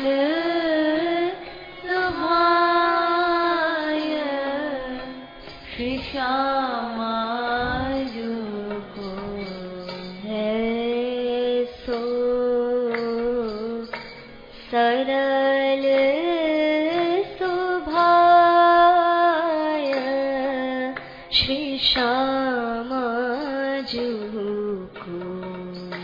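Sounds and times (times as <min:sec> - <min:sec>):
person singing devotional song: 0:00.0 - 0:26.0.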